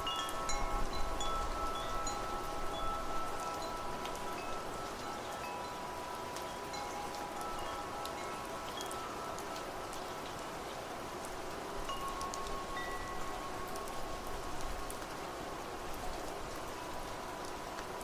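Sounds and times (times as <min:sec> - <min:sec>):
wind chimes ringing: 0:00.0 - 0:14.9
steady rain: 0:00.0 - 0:18.0.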